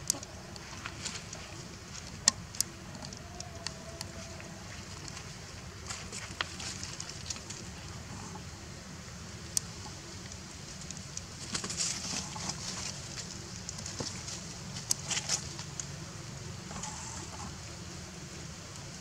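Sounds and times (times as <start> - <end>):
light clicks and crackles: 0.0 - 8.5, 9.4 - 17.7.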